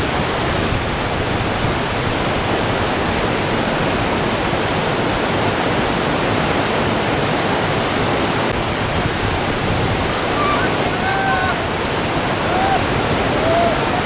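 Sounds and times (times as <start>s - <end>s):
whitewater rushing over rapids: 0.0s - 14.0s.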